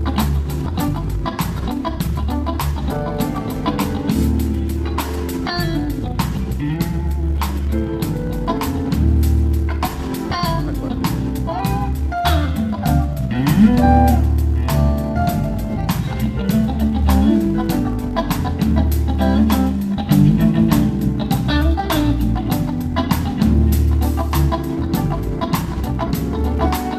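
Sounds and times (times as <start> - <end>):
bass line: 0.0 - 26.9
guitar melody with bending notes: 0.0 - 26.9
steady drum beat: 0.0 - 26.9.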